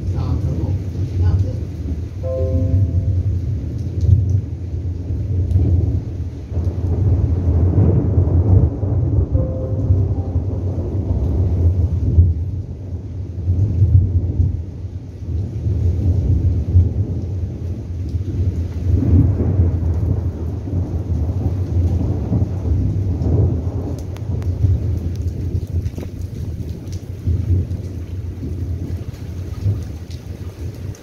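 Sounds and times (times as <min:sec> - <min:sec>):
rain: 0:00.0 - 0:31.0
rumble of thunder: 0:00.0 - 0:31.0.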